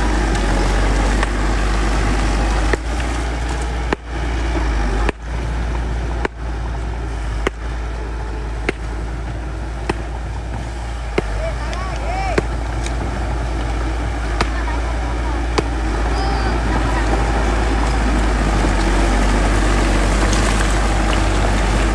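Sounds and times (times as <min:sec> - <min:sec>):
bulldozer diesel engine running: 0:00.0 - 0:21.9.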